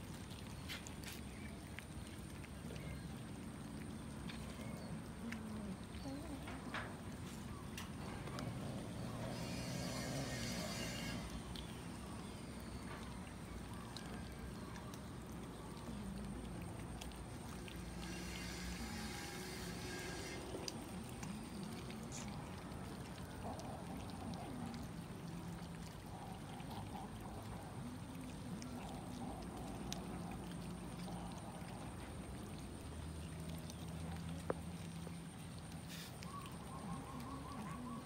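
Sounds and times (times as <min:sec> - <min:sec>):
cats chewing wet meat: 0:00.0 - 0:38.0.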